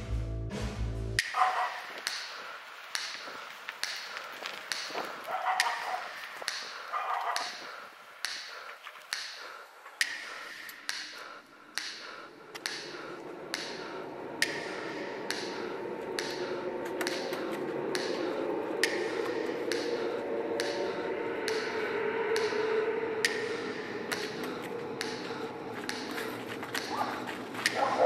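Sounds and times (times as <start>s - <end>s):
low drone: 0.0s - 28.0s
ringing ticks: 1.2s - 27.8s.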